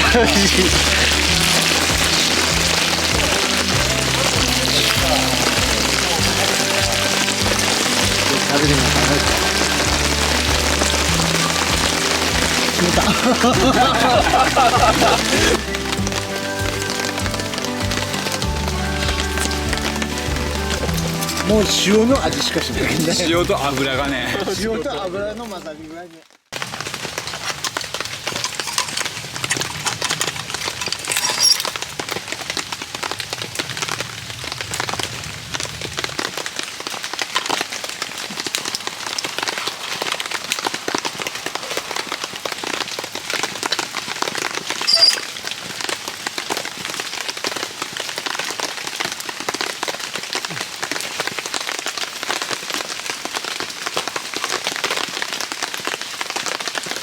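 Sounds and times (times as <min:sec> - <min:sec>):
rain on a tarp: 0:00.0 - 0:57.0.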